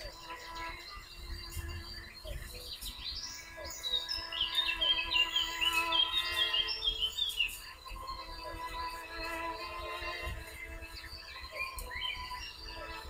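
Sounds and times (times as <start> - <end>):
birds chirping: 0.0 - 13.0
soft music with long held tones: 0.0 - 13.0.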